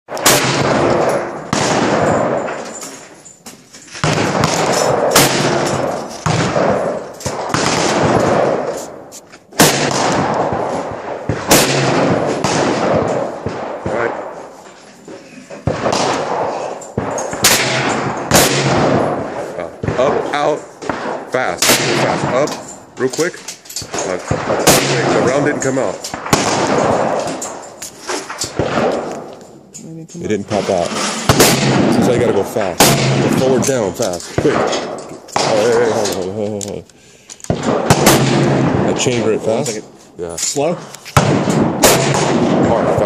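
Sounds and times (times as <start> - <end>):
rifle shots echoing: 0.1 - 3.2, 4.0 - 14.7, 15.5 - 29.7, 30.5 - 36.4, 37.4 - 40.0, 40.6 - 43.0.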